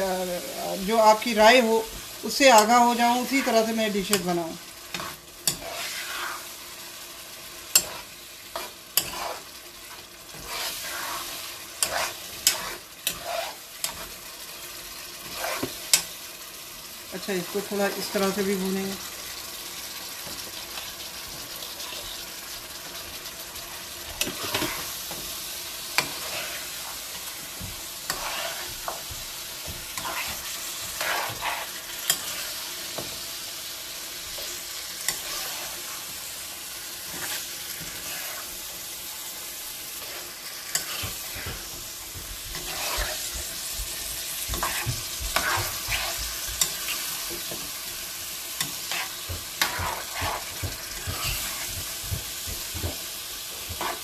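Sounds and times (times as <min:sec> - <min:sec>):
carrots sizzling in a wok: 0:00.0 - 0:54.0
spatula stirring and scraping: 0:00.1 - 0:16.6, 0:17.4 - 0:54.0.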